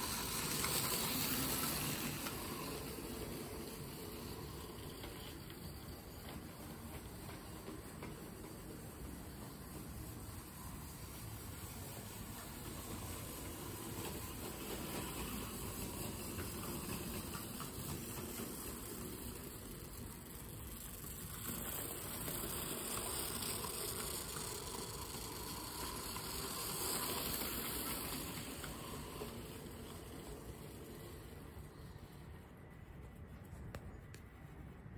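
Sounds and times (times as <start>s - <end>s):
clockwork toy train whirring: 0.0s - 34.9s.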